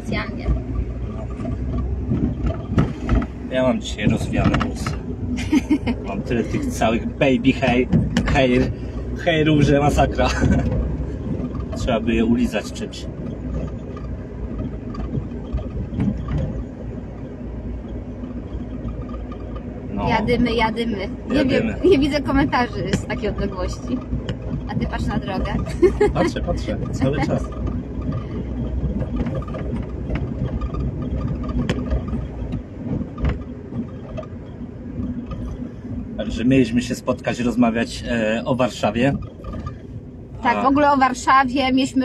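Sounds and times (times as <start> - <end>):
wind rumble on microphone: 0.0 - 37.3
road noise: 0.0 - 42.0.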